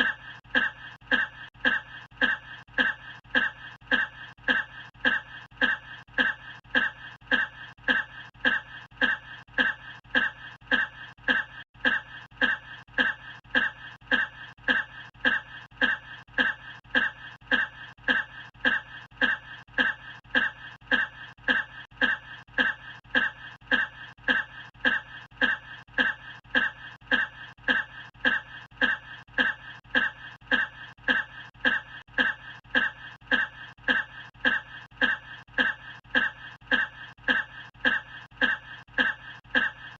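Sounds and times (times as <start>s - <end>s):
person coughing: 0.0s - 39.9s.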